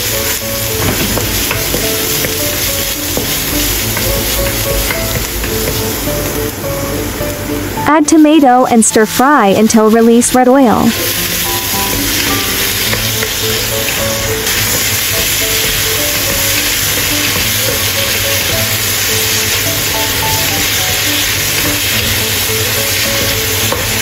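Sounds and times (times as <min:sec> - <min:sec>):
background music: 0:00.0 - 0:24.0
food sizzling in oil: 0:00.0 - 0:24.0.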